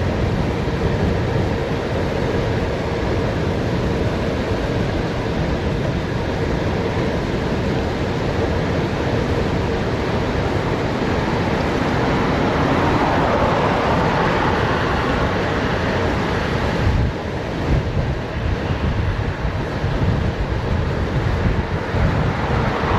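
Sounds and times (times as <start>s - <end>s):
wind rushing over microphone: 0.0s - 22.9s.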